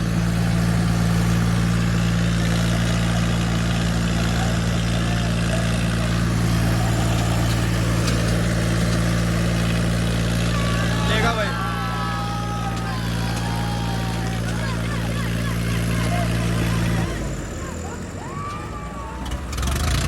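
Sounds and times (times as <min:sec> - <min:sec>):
tractor diesel engines revving: 0:00.0 - 0:20.0.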